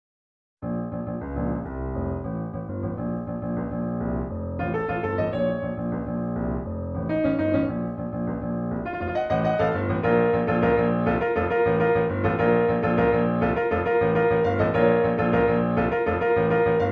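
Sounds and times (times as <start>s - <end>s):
piano music: 0.6s - 16.9s.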